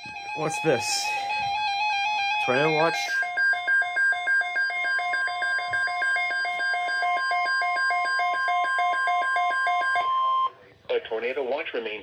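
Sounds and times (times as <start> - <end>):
steady warning alarm tone: 0.0 - 10.5
rapid two-pitch beeping: 0.1 - 10.5.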